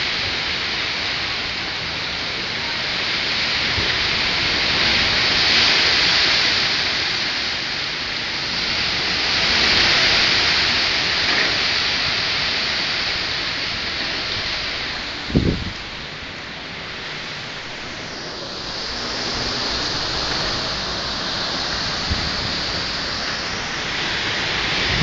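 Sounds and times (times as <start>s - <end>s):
heavy rain hiss: 0.0s - 25.0s.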